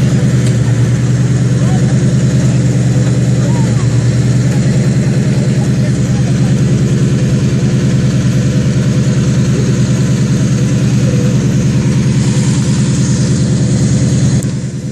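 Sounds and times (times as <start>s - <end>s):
car engine idling loudly: 0.0s - 14.9s.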